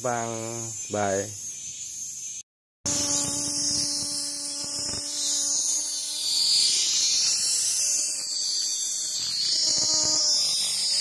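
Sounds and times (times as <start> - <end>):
cicada buzzing: 0.0 - 11.0.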